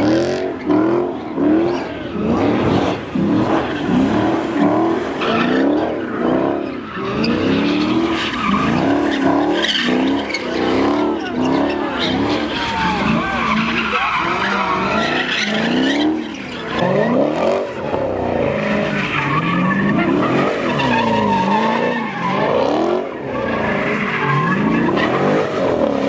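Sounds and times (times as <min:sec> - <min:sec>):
car engine revving: 0:00.0 - 0:26.0
tyres squealing and skidding: 0:00.0 - 0:26.0.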